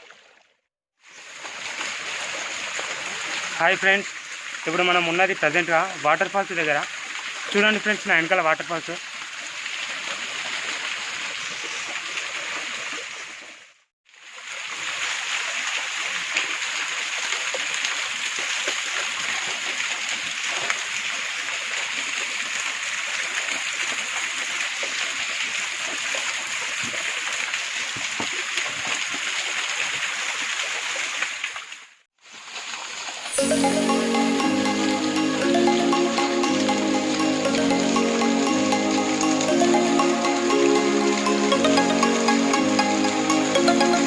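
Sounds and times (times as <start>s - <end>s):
small waterfall splashing: 0.0s - 44.0s.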